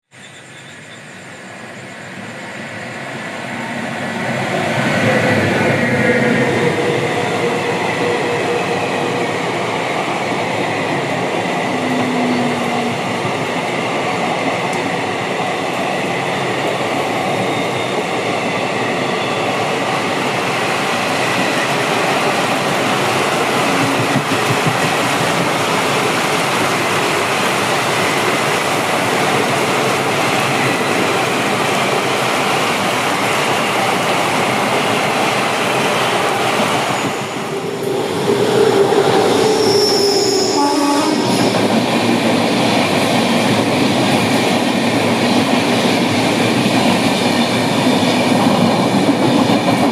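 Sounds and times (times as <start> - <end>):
train rumbling past: 0.2 - 49.9.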